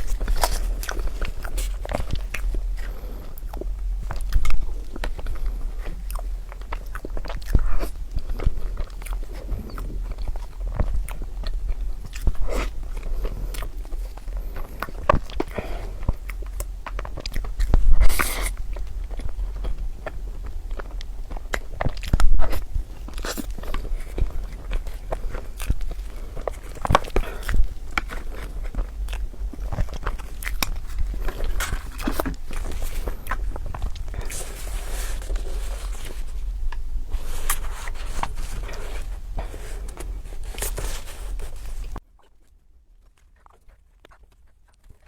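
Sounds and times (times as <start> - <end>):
crunchy food chewing: 0.0 - 45.0.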